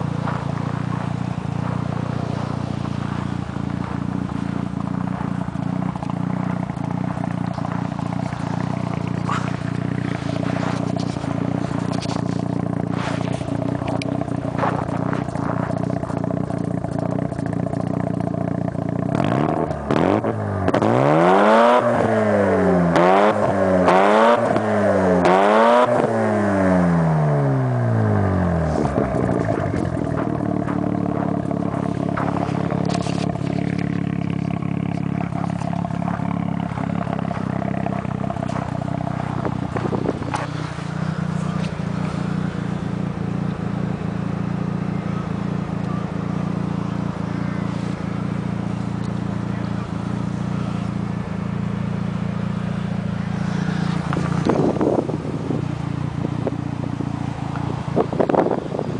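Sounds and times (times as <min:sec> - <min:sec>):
rotary engine idling and revving: 0:00.0 - 0:58.9.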